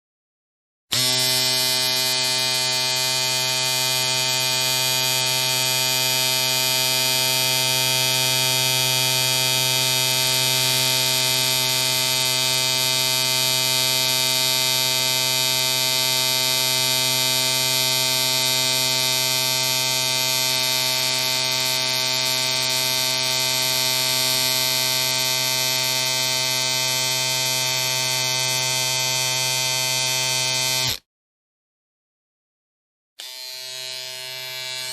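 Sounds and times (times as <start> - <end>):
electric hair clipper buzzing: 0.9 - 31.0, 33.2 - 34.9.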